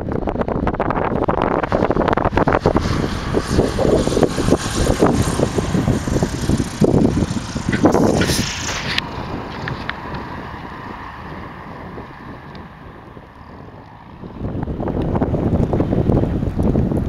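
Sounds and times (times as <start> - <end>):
steady rumble: 0.0 - 17.0
wind buffeting microphone: 0.0 - 17.0.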